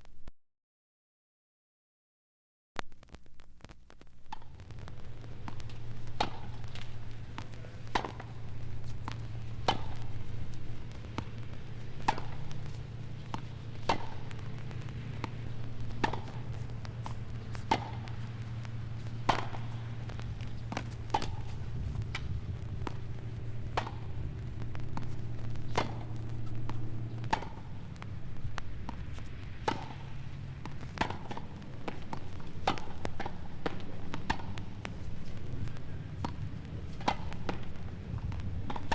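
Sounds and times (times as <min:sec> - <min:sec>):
steady low hum: 0:02.8 - 0:38.9.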